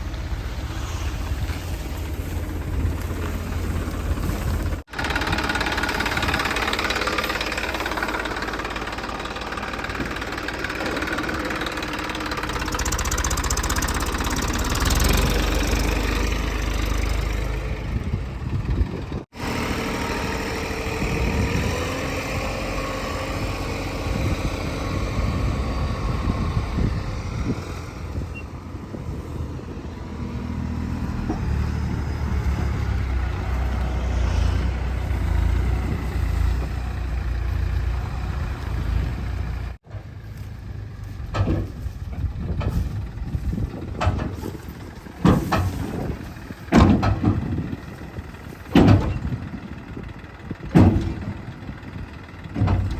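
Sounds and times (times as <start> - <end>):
diesel engine working: 0.0 - 52.9.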